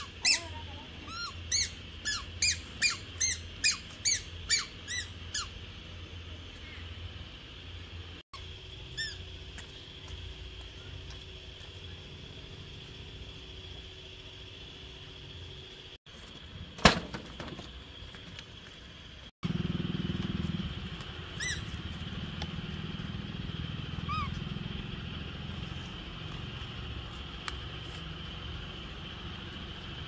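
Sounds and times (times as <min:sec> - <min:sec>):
steady high hum: 0:00.0 - 0:30.0
low motor rumble: 0:04.3 - 0:16.8, 0:17.6 - 0:30.0.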